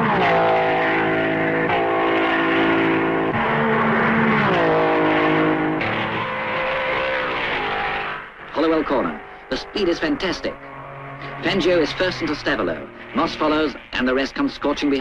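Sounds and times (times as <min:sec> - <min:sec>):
racing car engines at high revs: 0:00.0 - 0:15.0.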